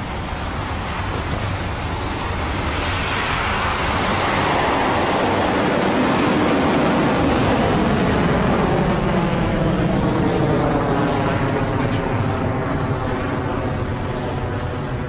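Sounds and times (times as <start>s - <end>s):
rocket exhaust roar: 0.0s - 15.0s.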